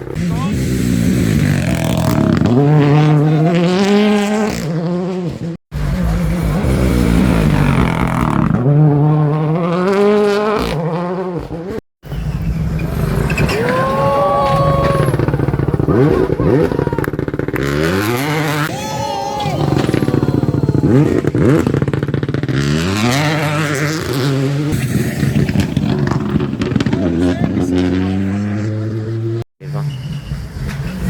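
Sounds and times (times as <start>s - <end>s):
rally cars passing on gravel: 0.0s - 31.0s.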